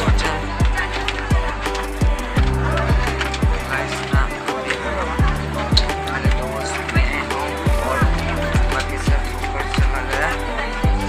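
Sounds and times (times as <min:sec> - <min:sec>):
hip-hop beat music: 0:00.0 - 0:11.0.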